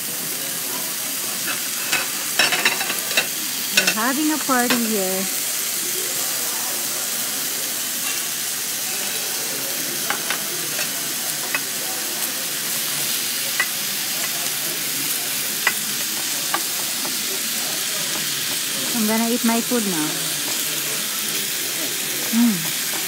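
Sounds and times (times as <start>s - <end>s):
meat sizzling on grill: 0.0s - 23.0s.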